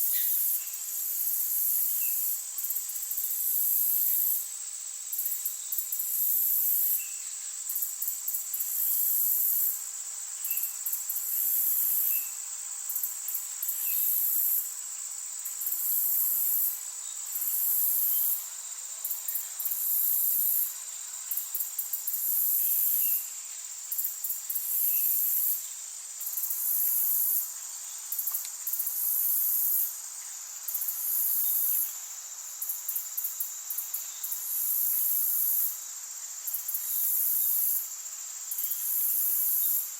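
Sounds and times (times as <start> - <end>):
insects trilling: 0.0 - 39.9
steady high hiss: 0.0 - 39.9.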